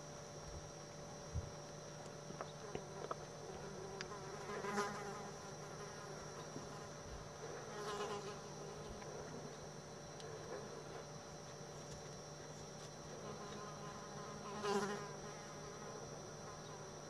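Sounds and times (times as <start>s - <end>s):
faint steady hum: 0.0s - 17.0s
insect buzzing: 0.0s - 17.0s.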